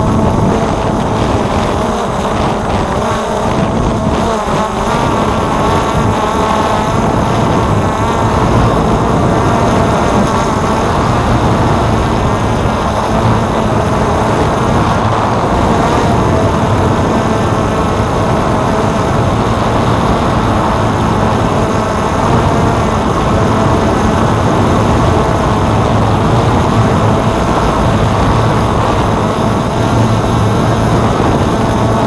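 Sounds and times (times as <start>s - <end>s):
drone motors whirring: 0.0s - 32.0s.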